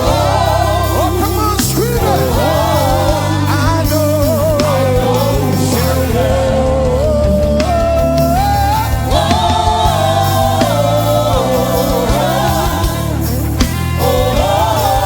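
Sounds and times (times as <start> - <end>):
band with low bass: 0.0 - 15.0.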